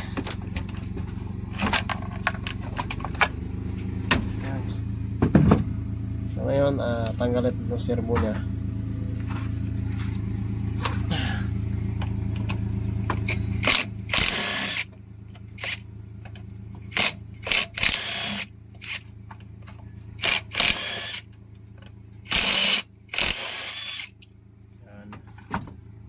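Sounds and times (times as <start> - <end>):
small truck engine idling: 0.0 - 26.0.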